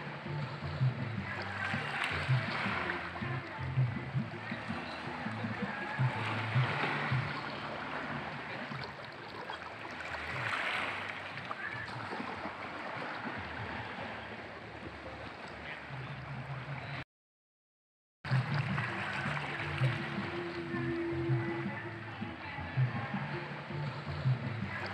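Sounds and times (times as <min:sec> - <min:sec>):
waves lapping against rocks: 0:00.0 - 0:17.0, 0:18.3 - 0:24.9.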